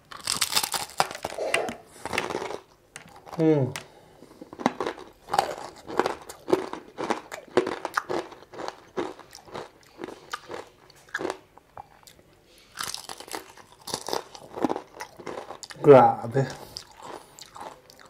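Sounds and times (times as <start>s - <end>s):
crunching and chewing fried chicken: 0.0s - 3.5s, 4.3s - 18.0s.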